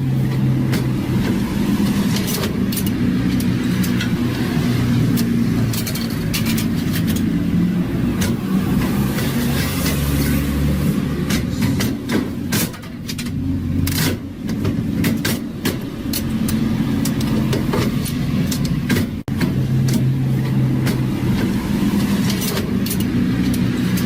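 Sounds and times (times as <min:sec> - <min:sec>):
mechanism clicks and knocks: 0:00.3 - 0:07.5, 0:11.2 - 0:24.0.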